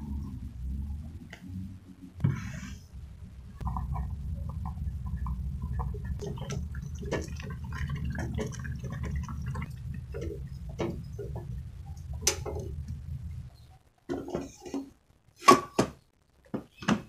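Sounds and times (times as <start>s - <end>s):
rice boiling in metal pot: 2.2s - 17.0s.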